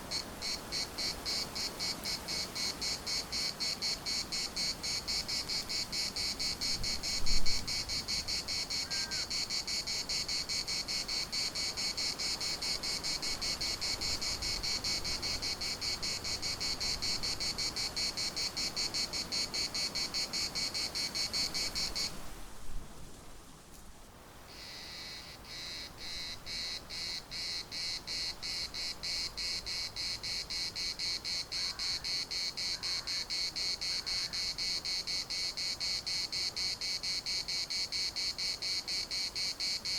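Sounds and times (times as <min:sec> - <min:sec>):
cicadas buzzing chorus: 0:00.0 - 0:22.4, 0:24.4 - 0:39.9.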